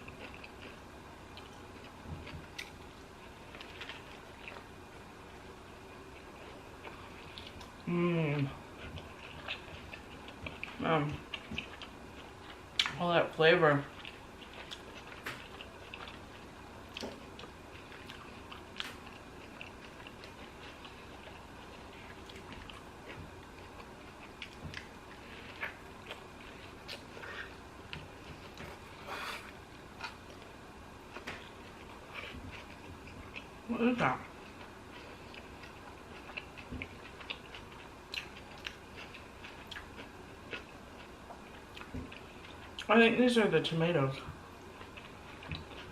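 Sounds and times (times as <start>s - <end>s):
close chewing with mouth clicks: 0.0s - 13.0s, 13.8s - 43.0s, 44.6s - 45.9s.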